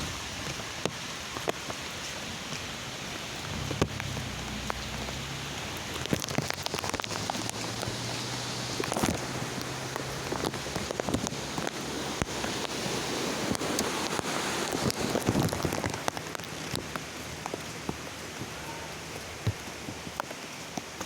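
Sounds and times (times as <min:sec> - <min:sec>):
rain falling: 0:00.0 - 0:21.0
sharp raindrop hits: 0:00.0 - 0:21.0.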